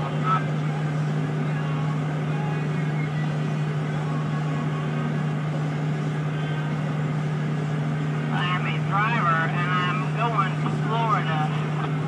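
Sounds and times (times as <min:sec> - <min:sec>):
car interior road drone: 0:00.0 - 0:12.0.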